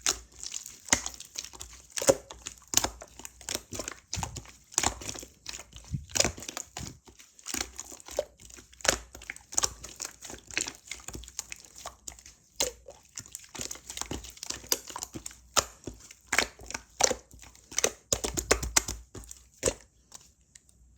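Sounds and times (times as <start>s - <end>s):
slime squished by hand: 0.0s - 20.9s.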